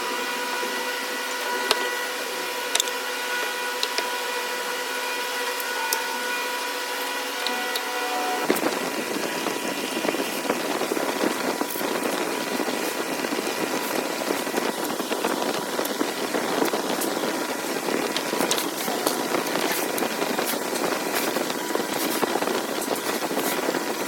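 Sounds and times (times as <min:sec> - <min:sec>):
woodworking power tool running: 0:00.0 - 0:24.0.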